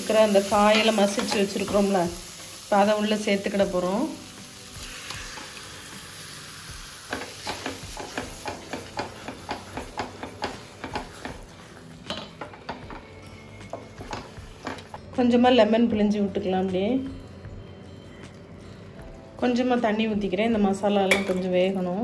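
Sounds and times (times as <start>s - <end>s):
sizzling in a pan: 0.0s - 22.0s.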